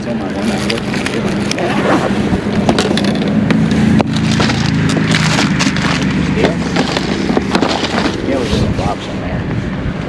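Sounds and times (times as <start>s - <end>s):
boat motor humming: 0.0s - 10.0s
wind buffeting microphone: 0.0s - 10.0s.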